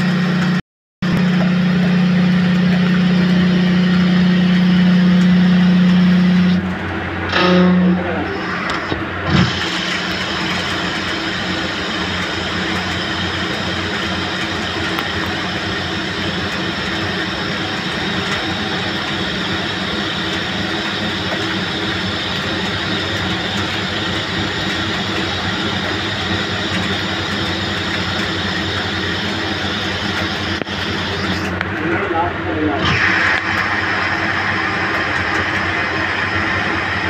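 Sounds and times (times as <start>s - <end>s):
constant machine hum: 0.0s - 37.0s
lathe cutting metal: 0.0s - 37.0s.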